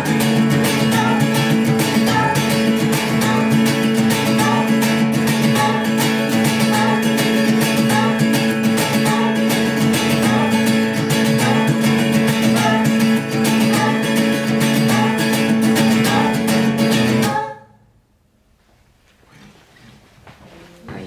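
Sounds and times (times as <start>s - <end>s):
acoustic guitar strumming: 0.0s - 17.8s.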